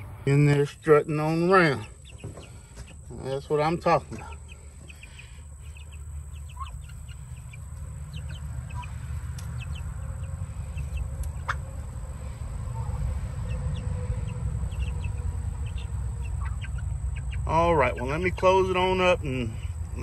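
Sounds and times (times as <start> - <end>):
chicks peeping and chirping: 0.0 - 20.0
steady low rumble: 0.0 - 20.0.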